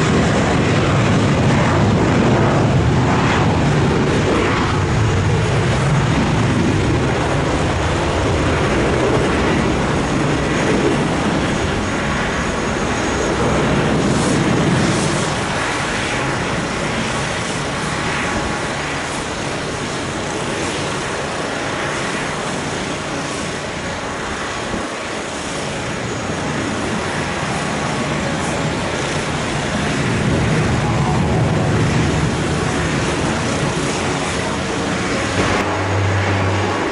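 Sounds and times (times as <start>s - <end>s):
airliner engines running: 0.0s - 36.9s.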